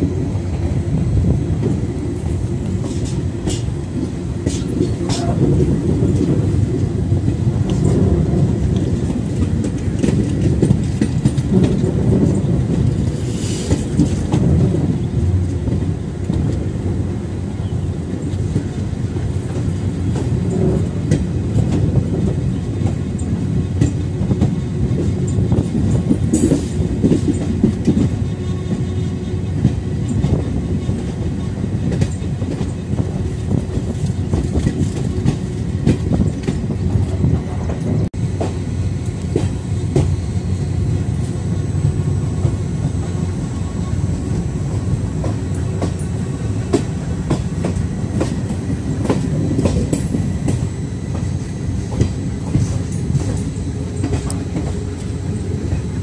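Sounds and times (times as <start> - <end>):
train coach rumbling: 0.0 - 56.0.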